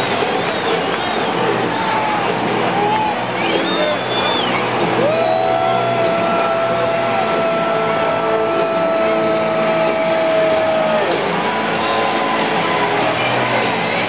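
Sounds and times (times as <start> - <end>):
loud music over loudspeakers: 0.0 - 14.0
stadium crowd noise: 0.0 - 14.0.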